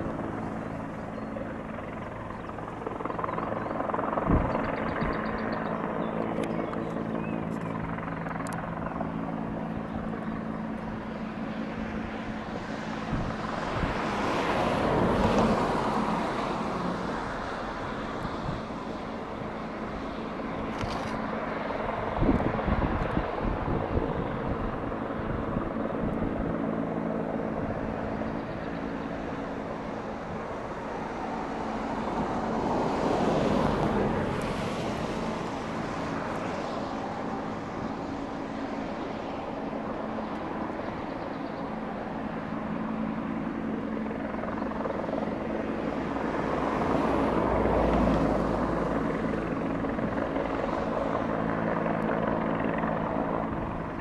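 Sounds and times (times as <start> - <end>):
helicopter hovering overhead: 0.0 - 54.0.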